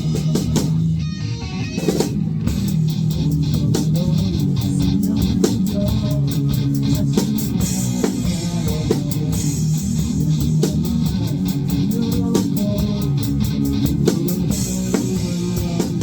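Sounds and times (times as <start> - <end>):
bass guitar: 0.0 - 16.0
drum kit beat: 0.0 - 16.0
guitar: 0.0 - 16.0.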